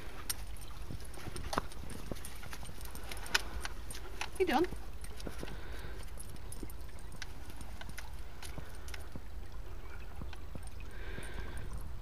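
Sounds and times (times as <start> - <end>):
dog paws stepping on gravel: 0.0 - 11.7.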